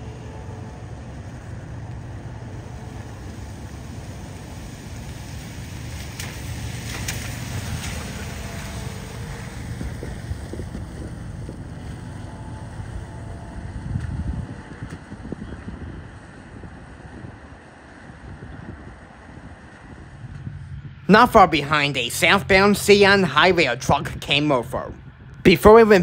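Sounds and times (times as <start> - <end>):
freight train rumbling: 0.0 - 26.0
wind buffeting microphone: 0.0 - 26.0.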